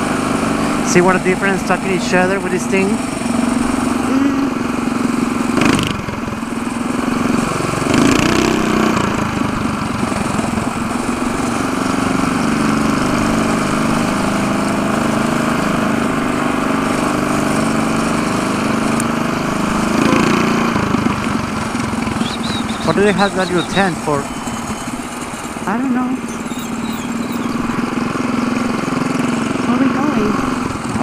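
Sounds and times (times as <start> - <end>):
small bike engine running: 0.0 - 31.0.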